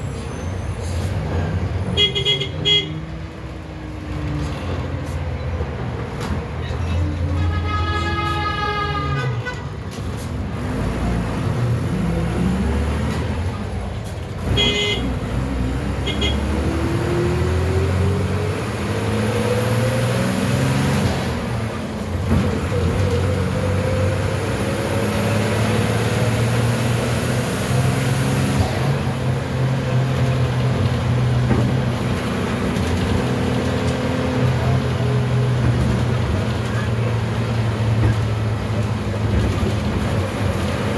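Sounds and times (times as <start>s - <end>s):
bus engine accelerating: 0.0s - 40.9s.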